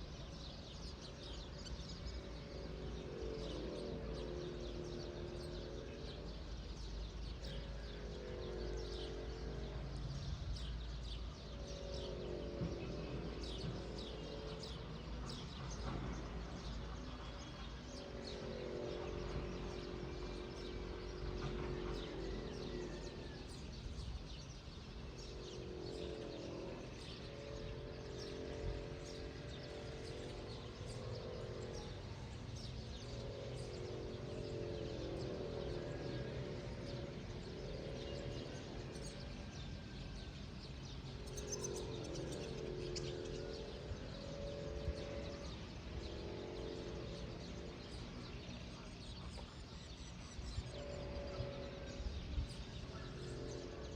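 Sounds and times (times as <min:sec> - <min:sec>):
birds chirping: 0:00.0 - 0:53.9
outdoor background hum: 0:00.0 - 0:53.9.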